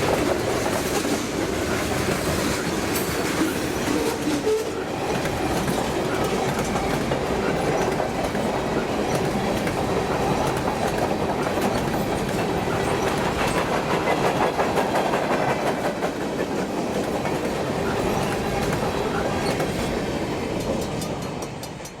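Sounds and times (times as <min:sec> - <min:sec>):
freight train rumbling past: 0:00.0 - 0:22.0
wheels clicking over rail joints: 0:00.0 - 0:22.0.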